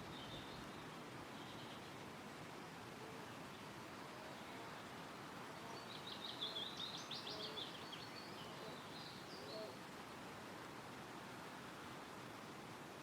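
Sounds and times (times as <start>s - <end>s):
wind in trees: 0.0s - 13.0s.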